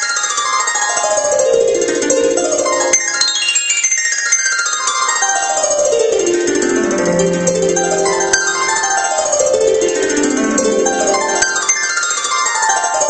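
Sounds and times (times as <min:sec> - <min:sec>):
harp glissandi: 0:01.4 - 0:12.2.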